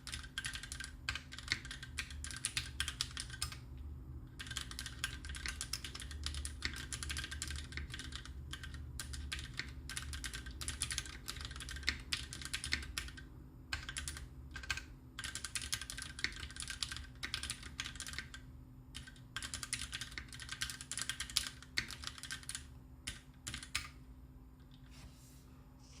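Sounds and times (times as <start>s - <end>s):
mechanical keyboard typing: 0.0s - 3.6s, 4.4s - 24.0s.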